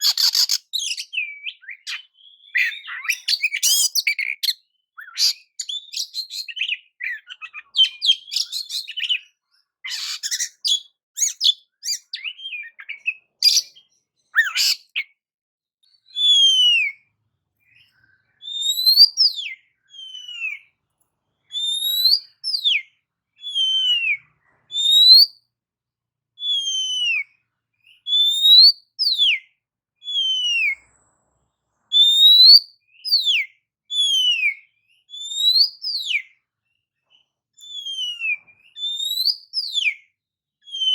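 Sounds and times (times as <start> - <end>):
bird singing: 0.0 - 15.2, 15.8 - 25.4, 26.4 - 31.0, 31.9 - 40.9.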